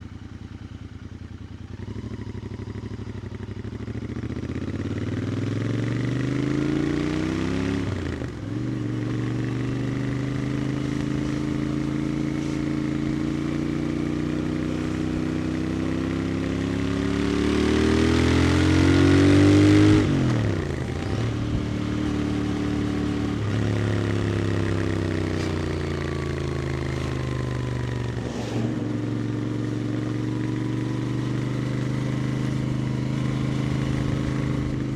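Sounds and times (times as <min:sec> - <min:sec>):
motorcycle accelerating: 0:00.0 - 0:34.9.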